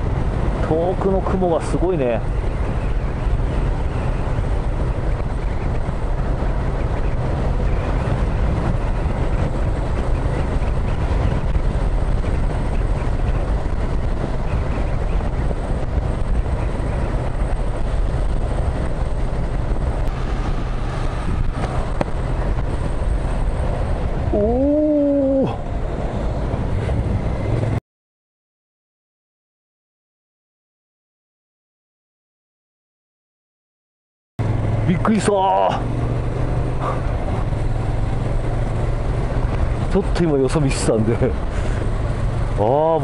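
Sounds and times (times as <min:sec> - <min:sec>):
motorcycle engine cruising: 0:00.0 - 0:27.8, 0:34.4 - 0:43.0
wind and road noise: 0:00.0 - 0:27.8, 0:34.4 - 0:43.0.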